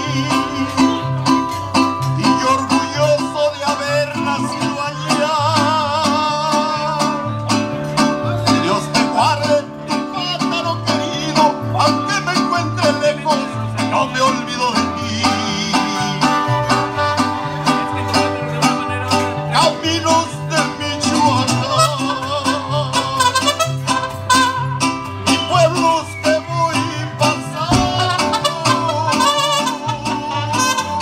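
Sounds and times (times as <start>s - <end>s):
bouncing bass line: 0.0s - 31.0s
strummed and plucked strings: 0.0s - 31.0s
bowed strings melody: 0.1s - 25.5s.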